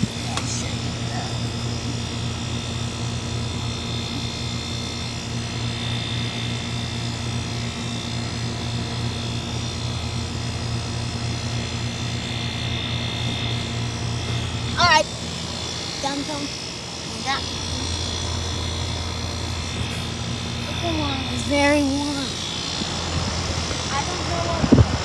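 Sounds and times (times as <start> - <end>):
air conditioner hum: 0.0 - 25.0
fan noise: 0.0 - 25.0.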